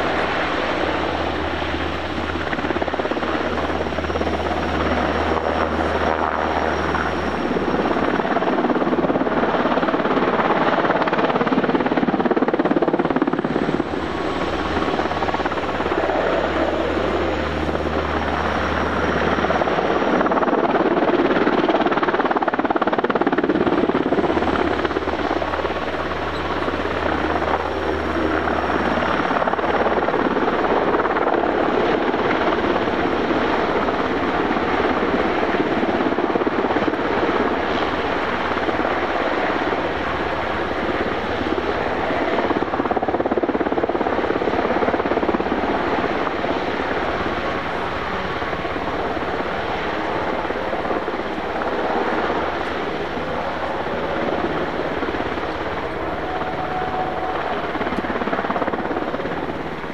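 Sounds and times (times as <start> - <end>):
helicopter rotor and engines: 0.0 - 59.9.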